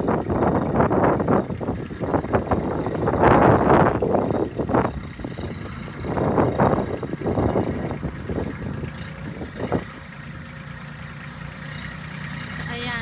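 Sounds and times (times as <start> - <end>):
tractor engine running: 0.0 - 13.0
wind buffeting microphone: 0.0 - 13.0.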